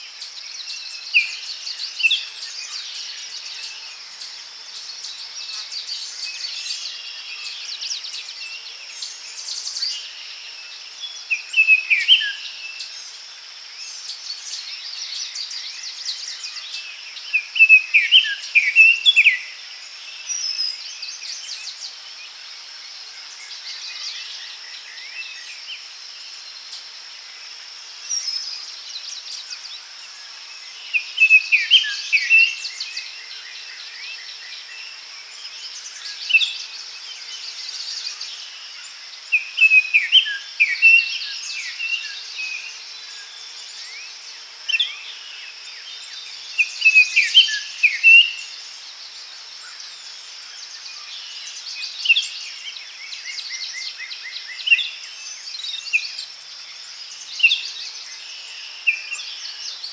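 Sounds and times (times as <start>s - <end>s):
insects droning: 0.0s - 59.9s
songbirds singing: 0.0s - 59.9s.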